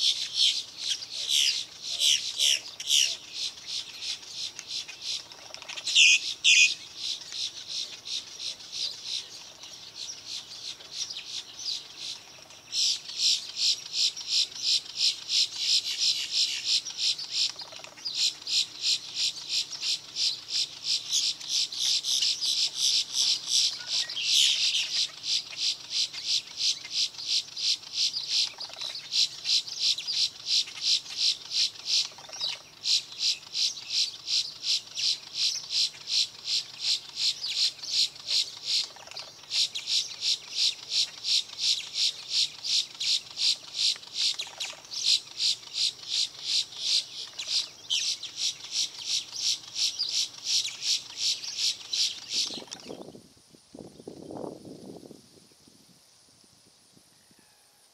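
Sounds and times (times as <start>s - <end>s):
insects chirping: 0.0s - 57.8s.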